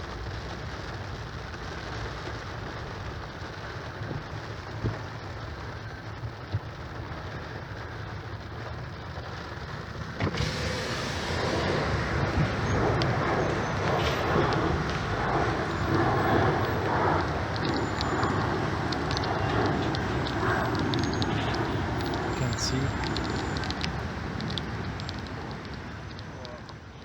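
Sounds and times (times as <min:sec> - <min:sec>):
rain hiss: 0:00.0 - 0:27.0
traffic: 0:00.0 - 0:27.0
muffled low car rumble: 0:03.4 - 0:27.0.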